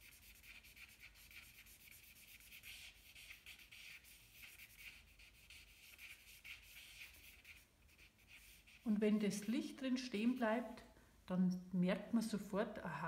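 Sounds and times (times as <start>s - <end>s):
charcoal scratching on paper: 0.0s - 10.6s.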